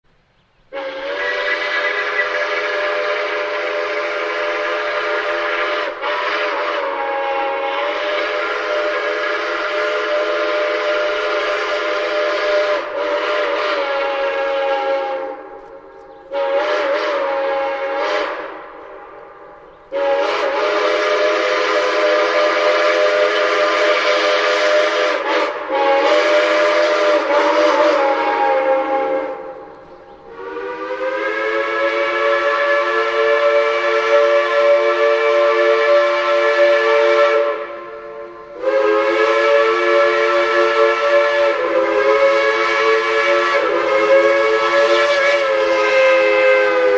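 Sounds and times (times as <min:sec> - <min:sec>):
steam locomotive whistle blowing: 0:00.7 - 0:46.9.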